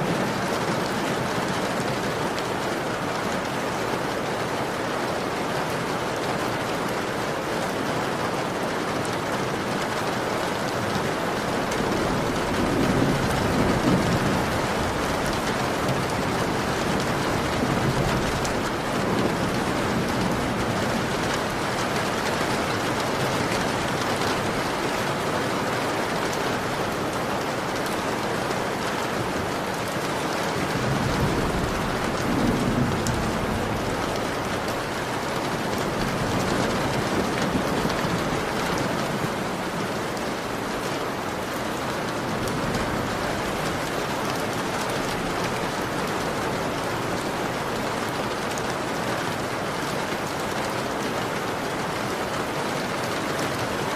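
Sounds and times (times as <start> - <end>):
heavy rain on a window: 0.0 - 53.9.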